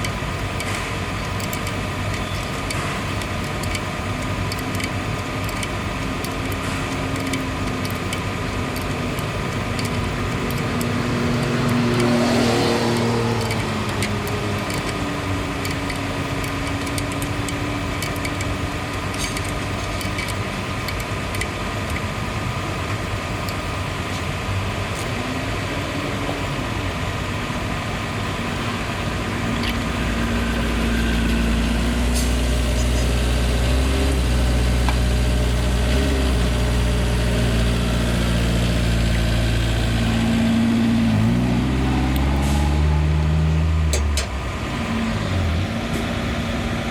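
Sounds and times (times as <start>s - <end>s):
bus engine running: 0.0s - 46.9s.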